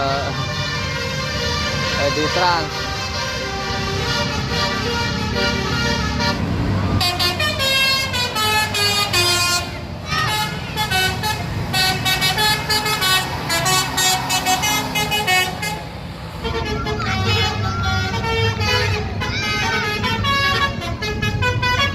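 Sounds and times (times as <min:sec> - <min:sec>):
bus engine running: 0:00.0 - 0:21.9
bus horn playing a tune: 0:00.0 - 0:21.9.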